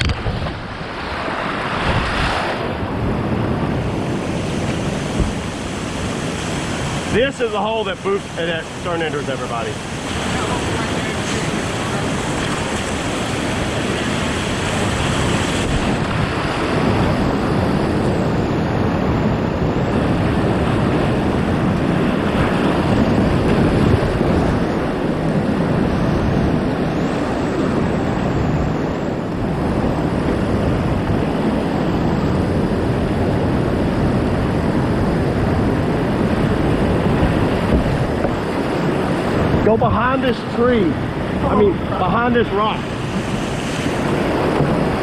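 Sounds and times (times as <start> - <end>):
whitewater rushing: 0.0 - 45.0.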